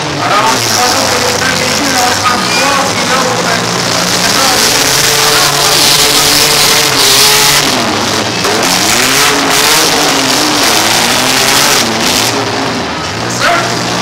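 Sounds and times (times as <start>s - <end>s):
car engines revving: 0.0s - 14.0s
dense engine noise: 0.0s - 14.0s.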